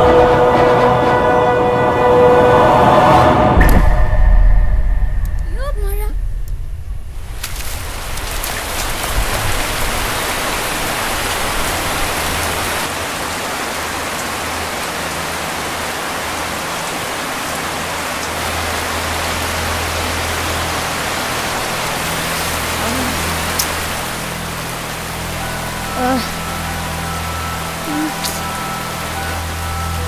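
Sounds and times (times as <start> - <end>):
rain falling: 5.2 - 30.0.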